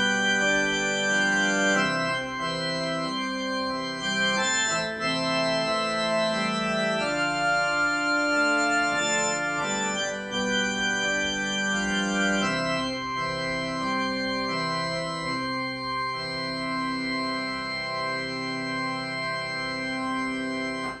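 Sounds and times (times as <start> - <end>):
organ chords on keyboard: 0.0 - 21.0.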